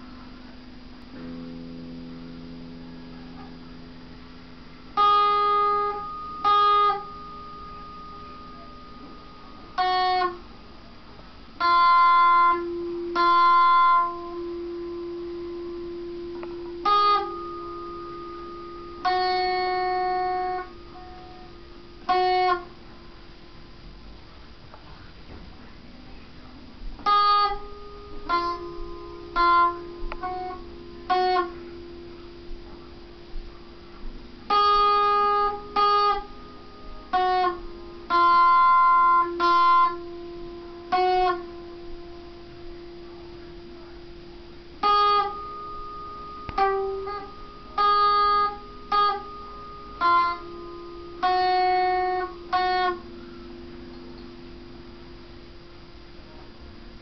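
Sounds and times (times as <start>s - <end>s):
acoustic guitar plucked notes: 0.0s - 57.0s.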